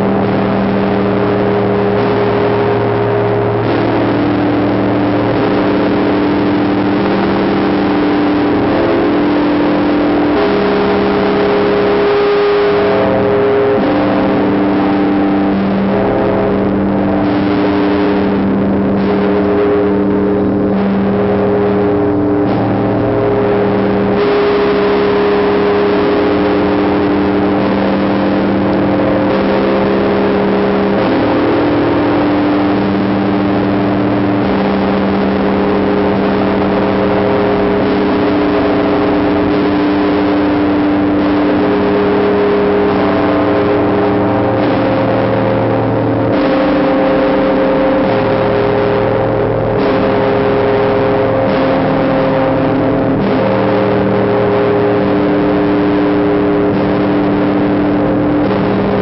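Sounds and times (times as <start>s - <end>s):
large bell ringing: 0.0s - 59.0s.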